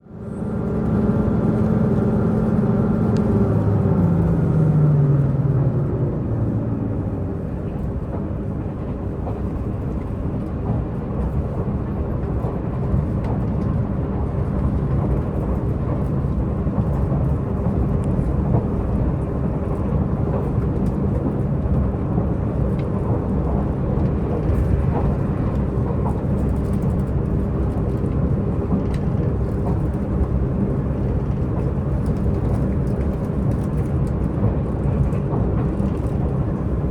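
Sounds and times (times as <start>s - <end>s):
train engine drone: 0.0s - 36.9s
train wheels rumbling on rails: 0.0s - 36.9s.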